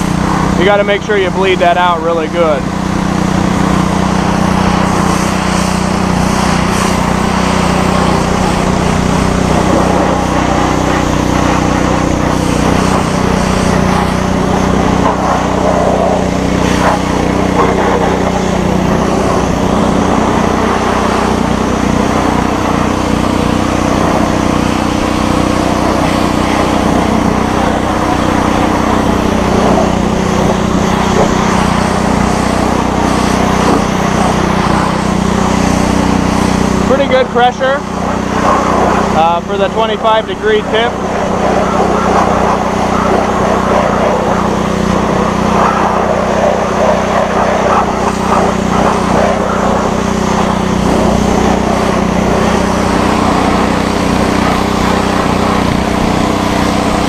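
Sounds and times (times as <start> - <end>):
pressure washer engine running: 0.0 - 57.0
water jet hissing on metal: 2.3 - 57.0.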